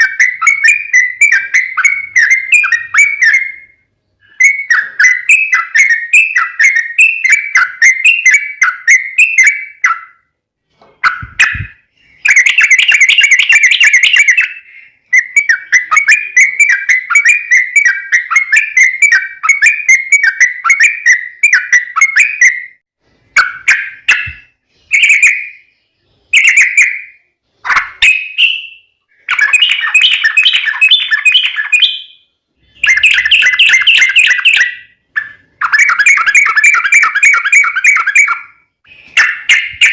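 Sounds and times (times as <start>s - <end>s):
bird singing bubbly chatter: 0.0s - 10.3s, 11.0s - 22.8s, 23.4s - 39.9s.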